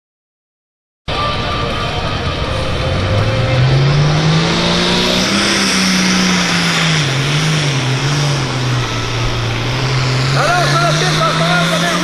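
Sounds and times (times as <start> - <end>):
tractor diesel engine revving: 1.1 - 12.0.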